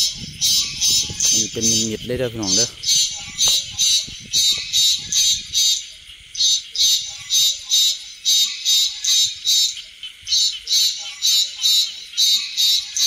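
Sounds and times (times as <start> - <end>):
high buzzy insect chirps: 0.0 - 13.0.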